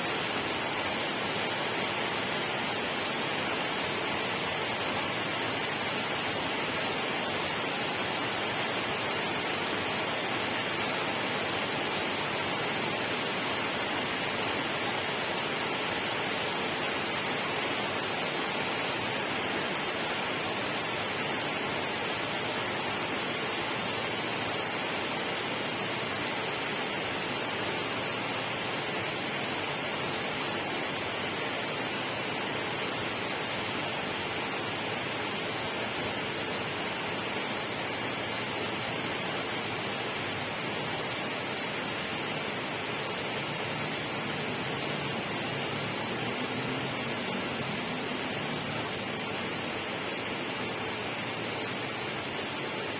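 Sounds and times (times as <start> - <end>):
rushing water hiss: 0.0 - 52.9.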